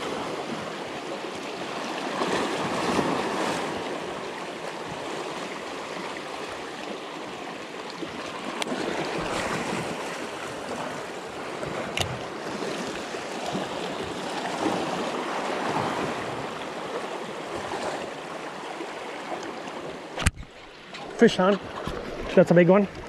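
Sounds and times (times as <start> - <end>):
small waves splashing on rocks: 0.0 - 23.0.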